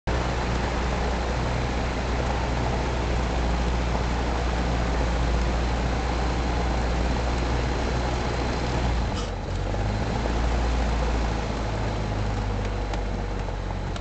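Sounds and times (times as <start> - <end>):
propeller plane engine in cabin: 0.1 - 14.0.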